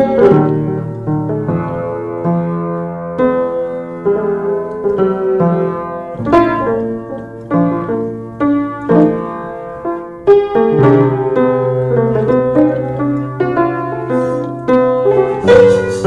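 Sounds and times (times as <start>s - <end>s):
piano chords and notes: 0.0s - 16.0s.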